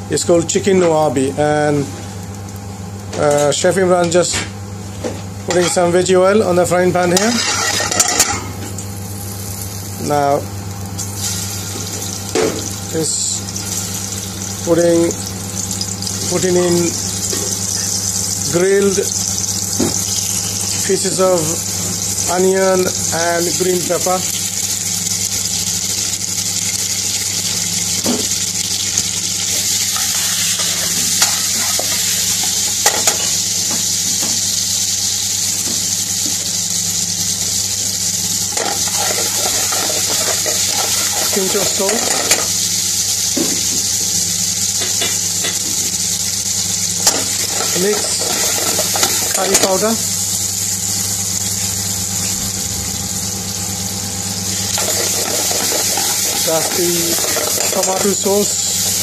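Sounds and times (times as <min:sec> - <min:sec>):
steady mechanical hum: 0:00.0 - 0:59.0
vegetables sizzling in oil: 0:06.9 - 0:59.0.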